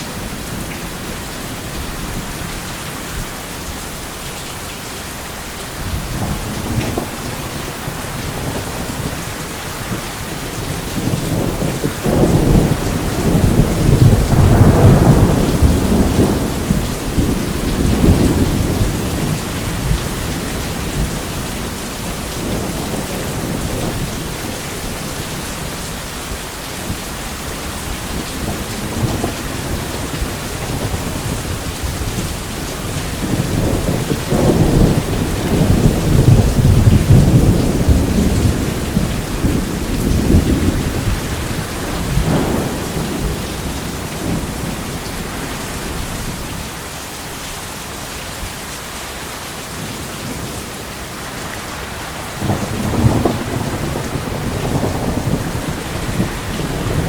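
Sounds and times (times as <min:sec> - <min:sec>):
steady rain: 0:00.0 - 0:57.0
thunder rumbling: 0:05.7 - 0:46.8, 0:49.8 - 0:57.0.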